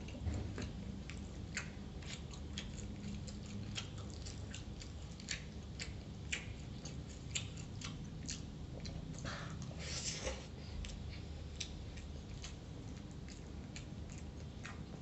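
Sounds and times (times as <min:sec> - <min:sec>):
chewing crispy food: 0:00.0 - 0:15.0
low room hum: 0:00.0 - 0:15.0.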